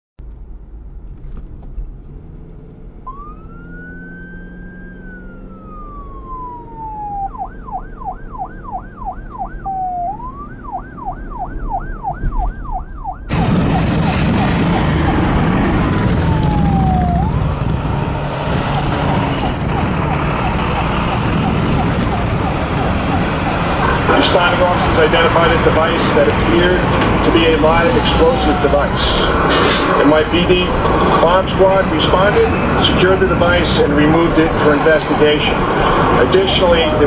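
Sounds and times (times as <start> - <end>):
loud traffic noise: 2.1 - 37.0
police siren wailing and yelping: 3.0 - 37.0.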